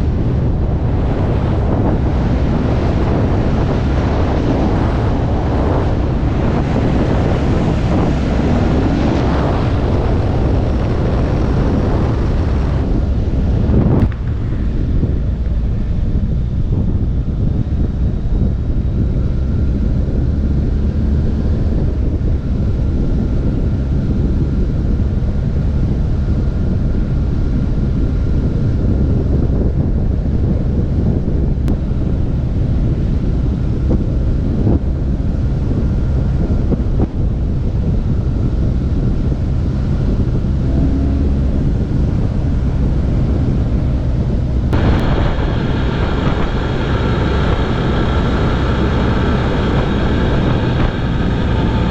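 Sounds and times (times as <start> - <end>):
high engine sound: 0.0 - 51.9
low drone: 0.0 - 51.9
wind rushing over microphone: 0.0 - 51.9.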